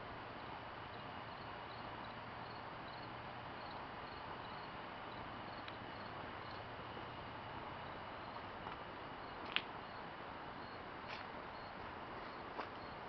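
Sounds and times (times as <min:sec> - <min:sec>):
steady background hiss: 0:00.0 - 0:13.0
faint insect chirps: 0:00.4 - 0:06.7, 0:07.7 - 0:08.5, 0:09.1 - 0:13.0.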